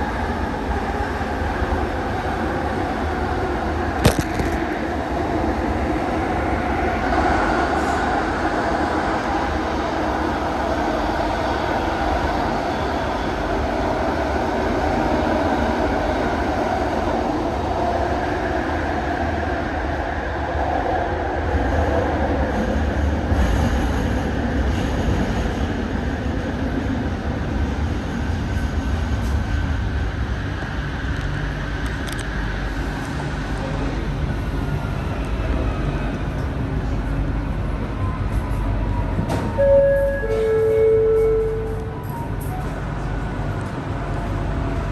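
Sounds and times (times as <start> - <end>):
low rumble of train: 0.0 - 44.9
train wheel noise: 0.0 - 44.9.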